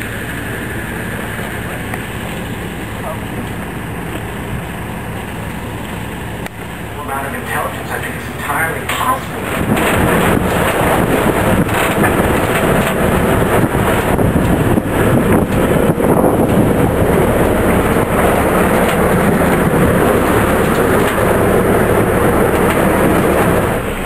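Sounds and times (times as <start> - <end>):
boat motor running: 0.0 - 24.0
rush of water: 0.0 - 24.0
wind: 0.0 - 24.0.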